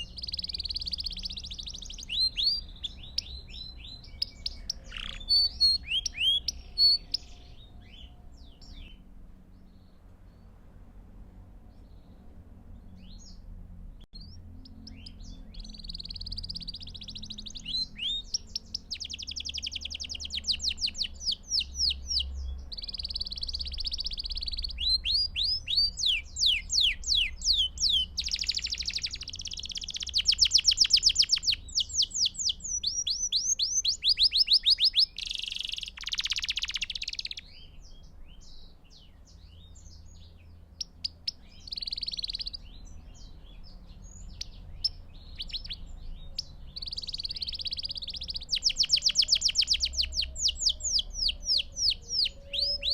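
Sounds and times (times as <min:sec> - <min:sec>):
canary singing trills: 0:00.0 - 0:10.6, 0:14.1 - 0:52.9.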